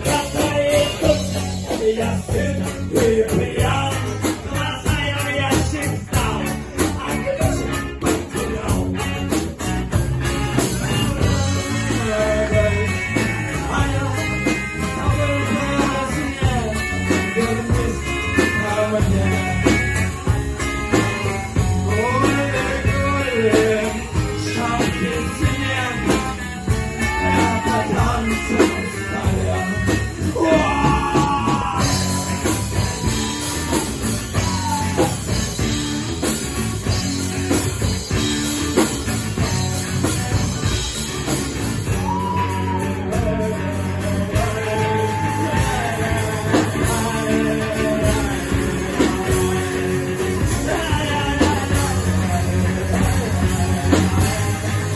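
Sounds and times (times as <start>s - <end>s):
person singing: 0.0s - 35.7s, 41.8s - 54.9s
rock band playing: 0.0s - 54.9s.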